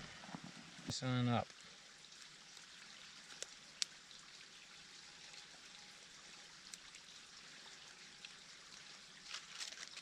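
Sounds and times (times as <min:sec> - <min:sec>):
faint creek rushing: 0:00.0 - 0:10.0.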